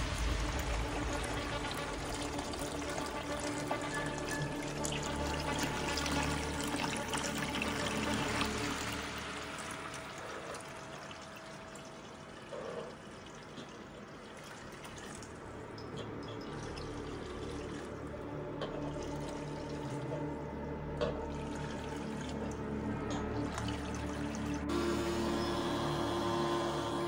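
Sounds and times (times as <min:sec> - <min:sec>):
water pouring into plastic bucket: 0:00.0 - 0:27.0.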